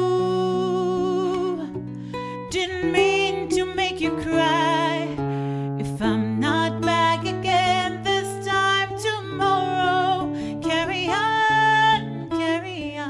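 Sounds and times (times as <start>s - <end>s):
woman singing with vibrato: 0.0s - 1.8s, 2.4s - 13.0s
plucked acoustic guitar: 0.0s - 13.0s.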